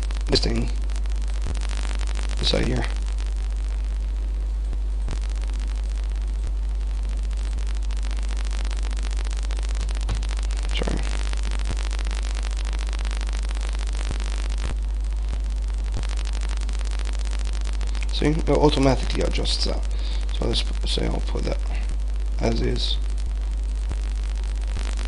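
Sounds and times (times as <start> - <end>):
low electrical hum: 0.0 - 25.0
faint clicks: 0.1 - 22.0.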